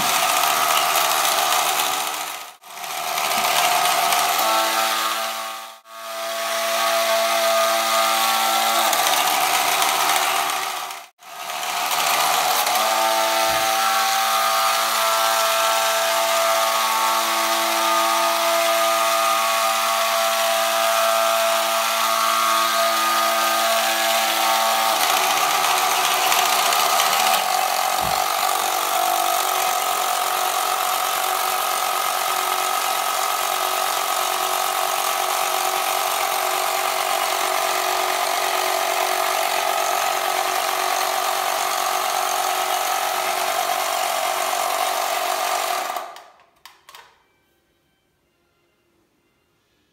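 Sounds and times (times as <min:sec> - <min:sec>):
toy motor whirring: 0:00.0 - 0:47.0.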